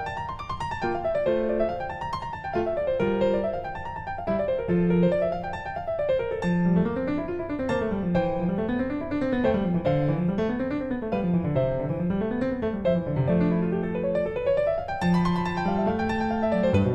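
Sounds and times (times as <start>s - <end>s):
piano music with quick runs: 0.0s - 16.9s.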